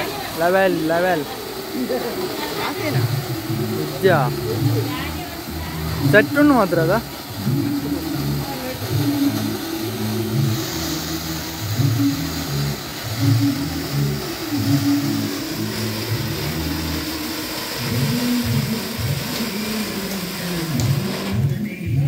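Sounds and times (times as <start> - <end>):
firework fountain hissing: 0.0 - 22.0
low droning tone: 2.8 - 21.5.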